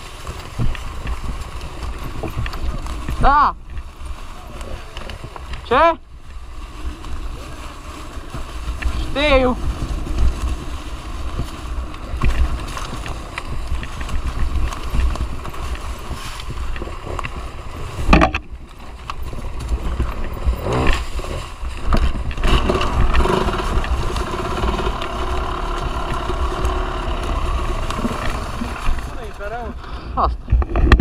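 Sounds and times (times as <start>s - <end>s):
dirt bike engine running: 0.0s - 29.8s.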